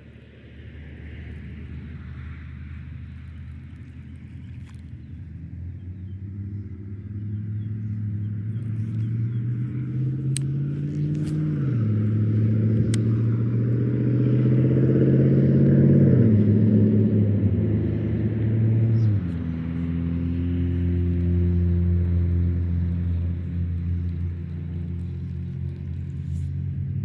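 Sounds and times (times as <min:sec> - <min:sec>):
vehicle engine accelerating: 0:00.0 - 0:27.0.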